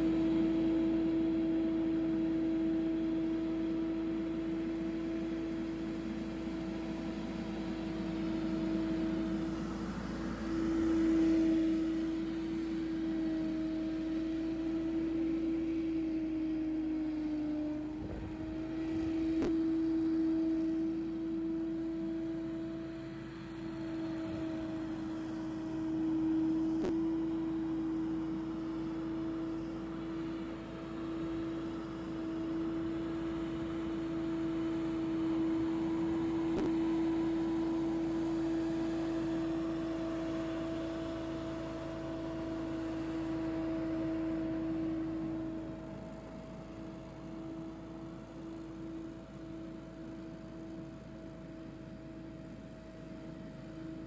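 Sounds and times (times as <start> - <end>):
leaf blower drone: 0.0 - 54.0.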